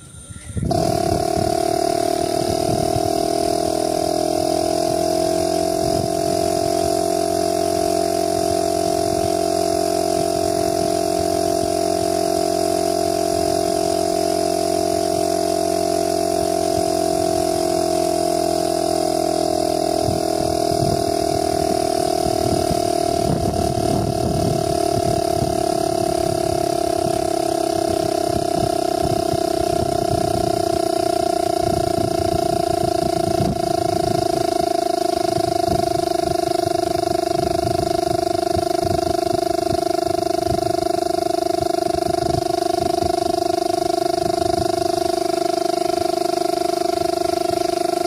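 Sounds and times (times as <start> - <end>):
refrigerator compressor humming: 0.0 - 48.0.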